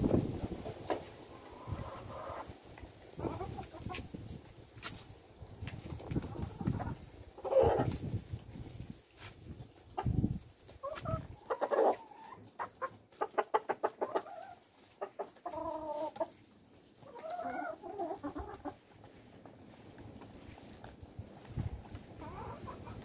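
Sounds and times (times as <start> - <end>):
hens clucking: 0.1 - 5.0, 5.7 - 23.0.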